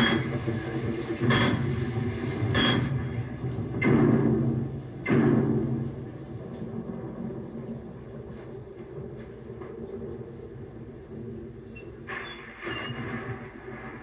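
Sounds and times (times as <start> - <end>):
crickets chirping: 0.0 - 14.0
old film soundtrack hiss and hum: 0.0 - 14.0.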